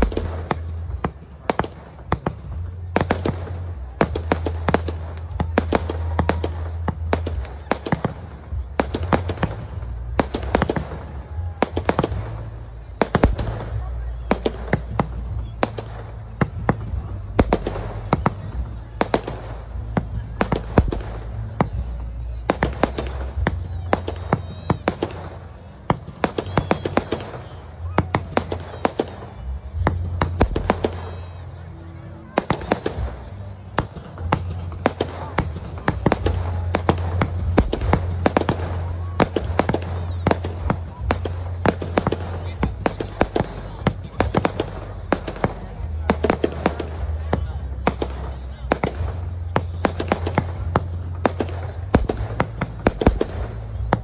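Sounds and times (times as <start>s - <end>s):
continuous low rumble: 0.0s - 54.0s
fireworks bursting: 0.0s - 54.0s.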